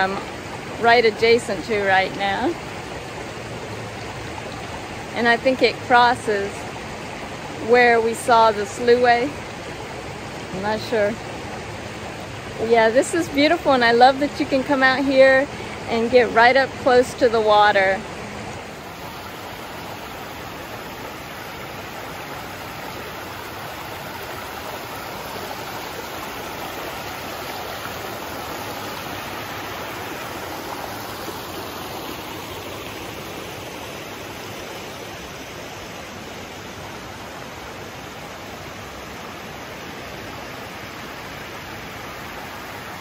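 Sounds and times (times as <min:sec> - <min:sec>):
river rushing over rocks: 0:00.0 - 0:43.0.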